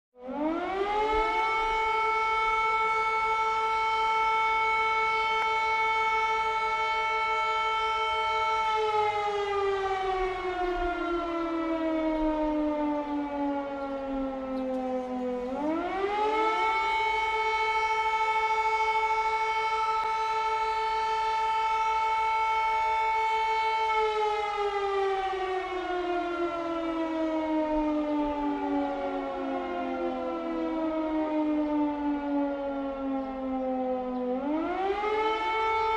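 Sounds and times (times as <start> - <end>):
air raid siren wailing: 0.2 - 35.9.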